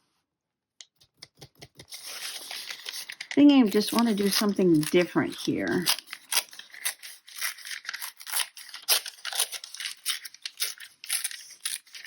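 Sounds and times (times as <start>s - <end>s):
paper crackling and rustling: 1.3s - 12.0s.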